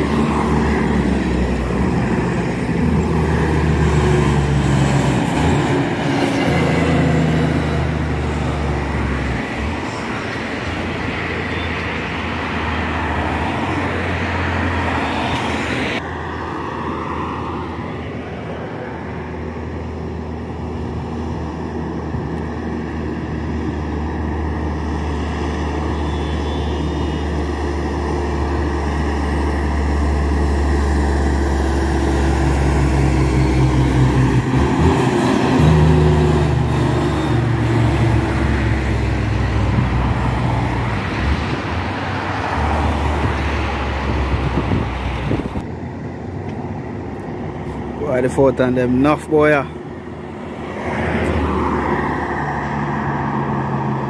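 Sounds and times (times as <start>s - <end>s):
cars passing: 0.0s - 54.0s
truck diesel engine passing: 0.0s - 54.0s.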